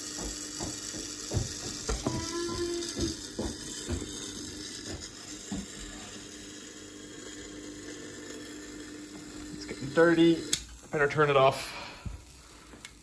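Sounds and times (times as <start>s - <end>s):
sandwich maker crackling and clicking: 0.0s - 11.5s, 12.2s - 13.0s
steady electrical hum: 0.0s - 13.0s.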